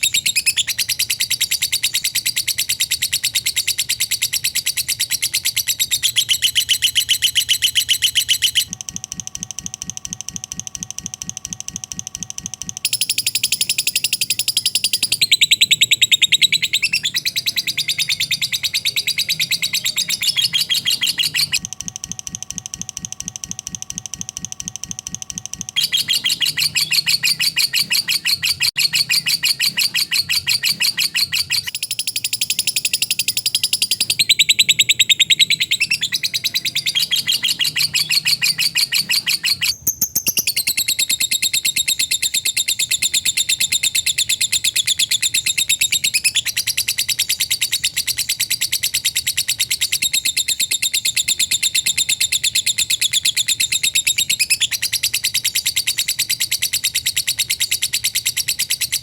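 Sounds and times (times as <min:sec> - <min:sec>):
lovebird chattering trill: 0:00.0 - 0:08.7, 0:12.9 - 0:21.6, 0:25.8 - 0:59.0.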